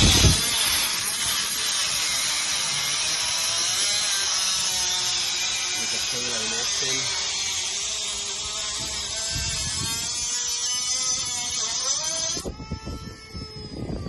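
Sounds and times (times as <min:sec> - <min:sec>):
electric power tool whining: 0:00.0 - 0:14.0.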